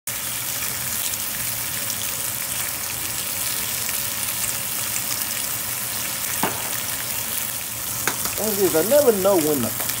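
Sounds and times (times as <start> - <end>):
bacon sizzling in skillet: 0.1 - 10.0.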